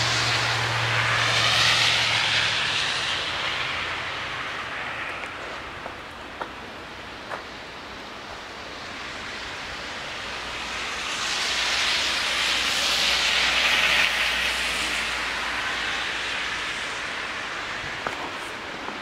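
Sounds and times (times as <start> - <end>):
car tyre hiss passing: 0.0 - 19.0.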